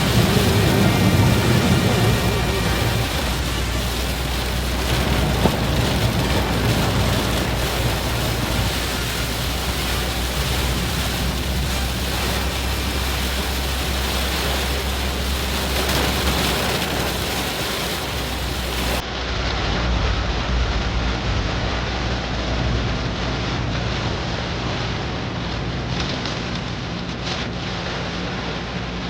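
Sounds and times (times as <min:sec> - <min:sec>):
heavy rain on a car: 0:00.0 - 0:29.0
tyres and engine rumbling: 0:00.0 - 0:29.0.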